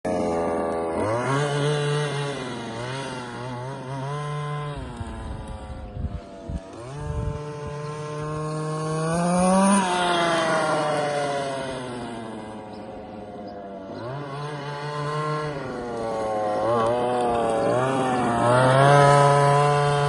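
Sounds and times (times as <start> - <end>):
rc car engine revving: 0.1 - 20.0.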